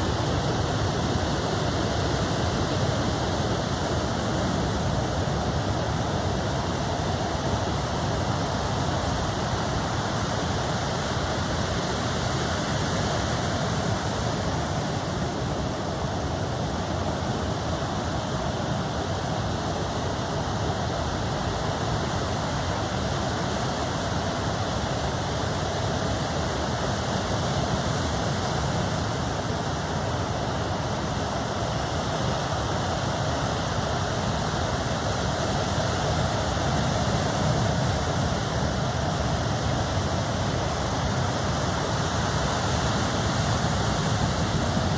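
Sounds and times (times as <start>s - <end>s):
ocean surf rushing: 0.0s - 44.9s.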